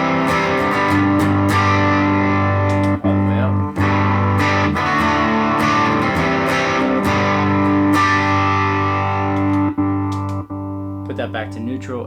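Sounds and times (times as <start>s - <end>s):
distorted electric guitar chords: 0.0s - 12.0s.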